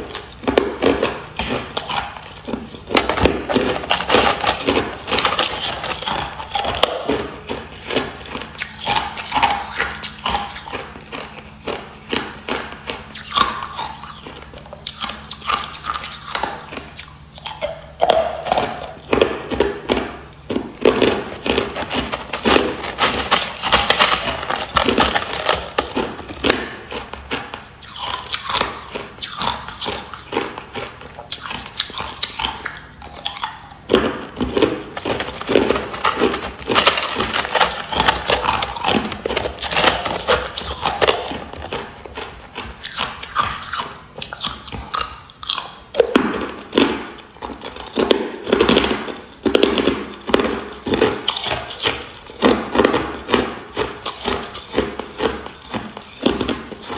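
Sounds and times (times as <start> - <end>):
person crunching ice: 0.0 - 56.9.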